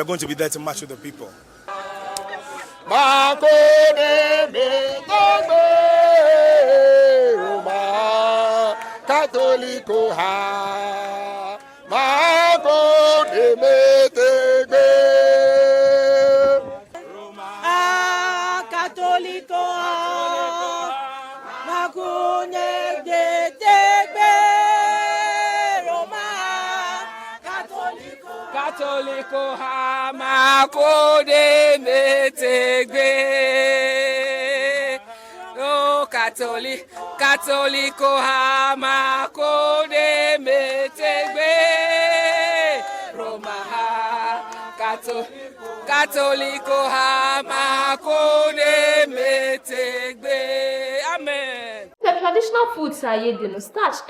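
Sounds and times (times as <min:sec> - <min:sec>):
group singing a chant: 0:01.6 - 0:52.0.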